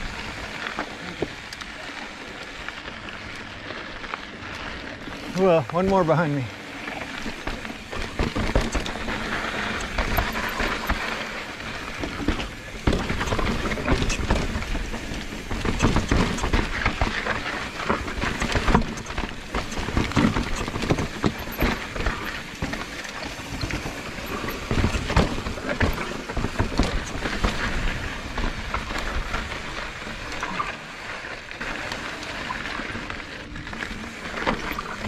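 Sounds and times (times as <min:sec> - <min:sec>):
mountain bike clattering on rocks: 0:00.0 - 0:35.0.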